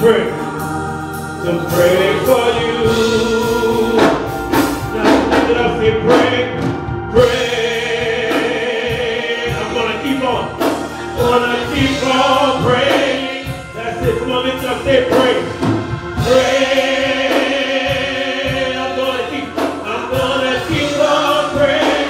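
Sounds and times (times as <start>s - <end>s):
gospel group singing: 0.0s - 22.0s.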